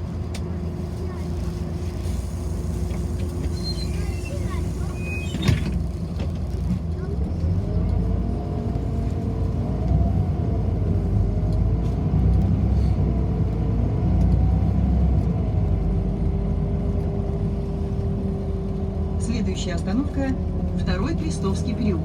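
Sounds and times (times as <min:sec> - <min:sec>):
bus engine rumble and whine: 0:00.0 - 0:22.0.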